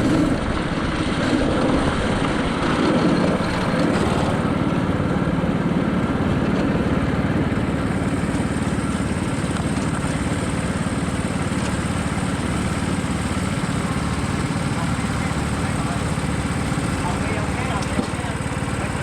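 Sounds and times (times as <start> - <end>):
kart engine running: 0.0 - 19.0.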